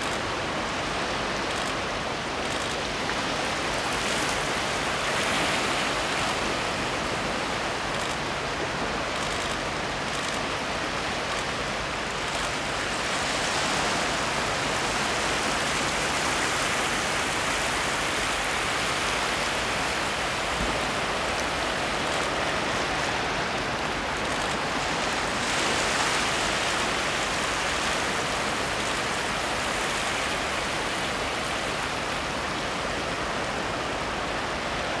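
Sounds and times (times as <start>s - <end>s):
waves washing over rocks: 0.0s - 35.0s.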